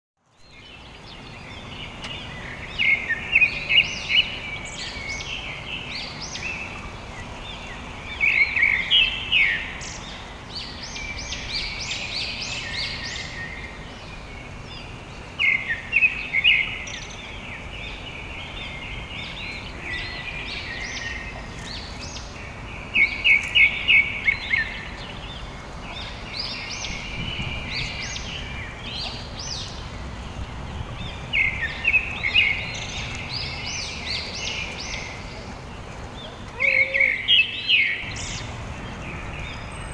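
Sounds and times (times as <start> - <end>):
birds chirping: 0.2 - 39.9
steady background noise: 0.4 - 39.9.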